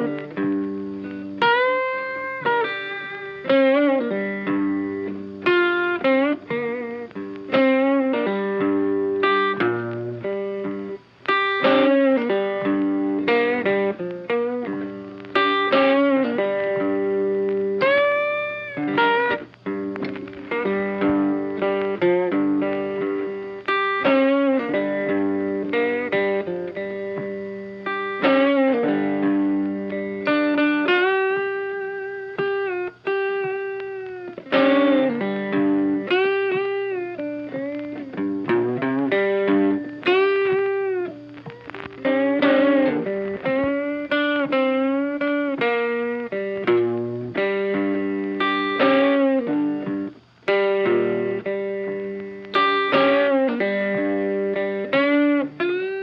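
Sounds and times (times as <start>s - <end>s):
funky electric guitar music: 0.0s - 56.0s.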